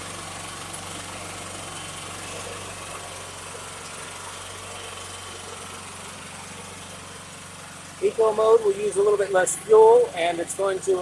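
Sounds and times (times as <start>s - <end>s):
generator engine idling: 0.0s - 11.0s.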